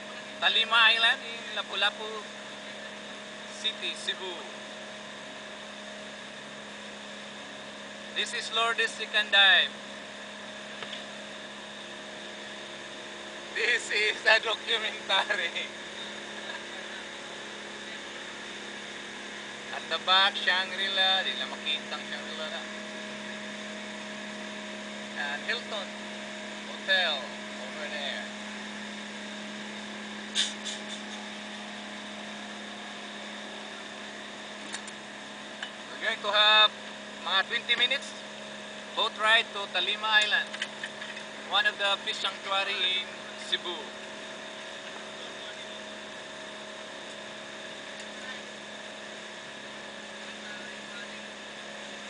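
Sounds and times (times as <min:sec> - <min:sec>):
boat engine humming: 0:00.0 - 0:52.0.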